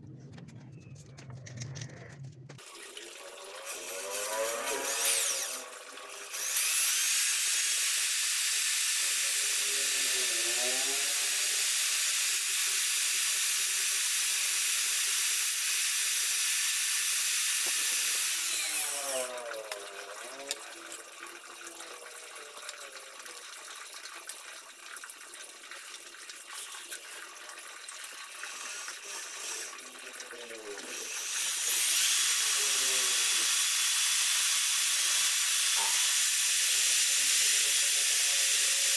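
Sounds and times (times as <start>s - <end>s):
electric drill running: 2.0s - 22.6s, 28.3s - 38.9s.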